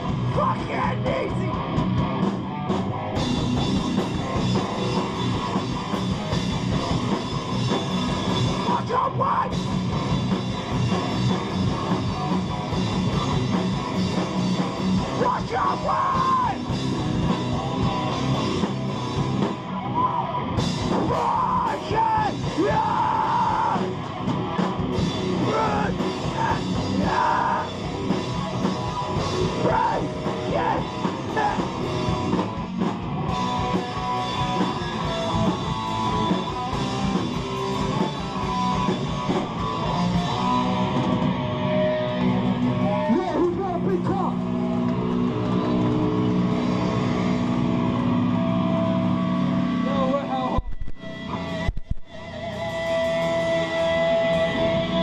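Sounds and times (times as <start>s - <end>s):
distorted electric guitars: 0.0s - 55.0s
driving drum kit: 0.0s - 55.0s.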